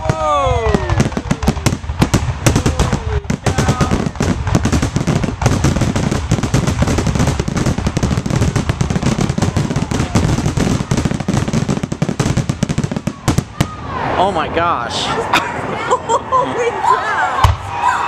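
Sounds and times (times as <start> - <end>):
fireworks bursting and crackling: 0.0 - 15.1.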